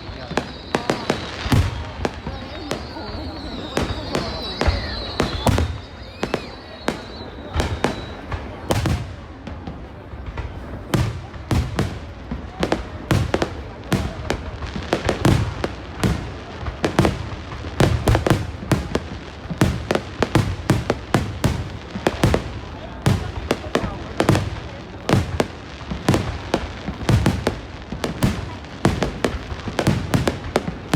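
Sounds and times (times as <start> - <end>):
deep fireworks booms: 0.0 - 30.9
fireworks bangs and crackling: 0.0 - 30.9.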